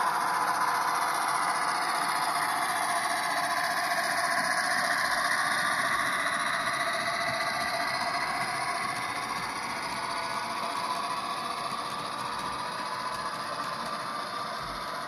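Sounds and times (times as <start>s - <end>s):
model train wheels on rail: 0.0s - 15.0s.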